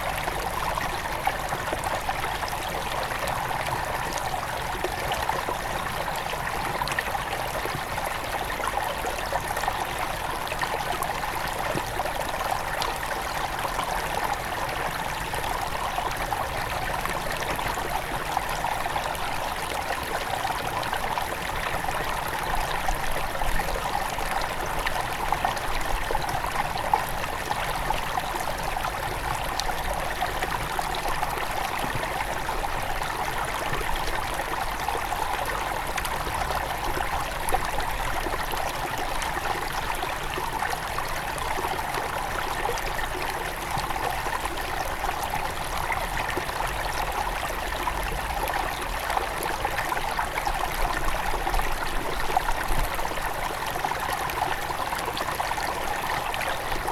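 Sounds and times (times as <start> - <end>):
stream trickling over stones: 0.0 - 56.9.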